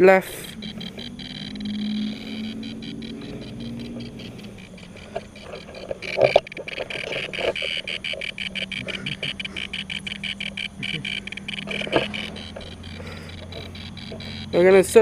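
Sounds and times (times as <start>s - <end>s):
emf meter ticking rapidly: 0.0s - 15.0s
steady high electronic tone: 0.0s - 15.0s.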